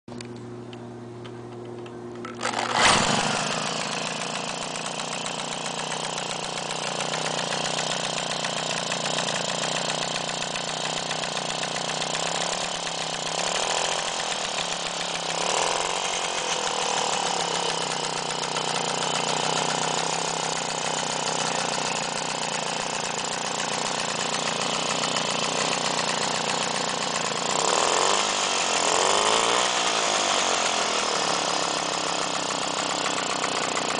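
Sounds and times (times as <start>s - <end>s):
two-stroke engine running: 1.4s - 33.9s
cordless drill whine: 2.2s - 33.9s.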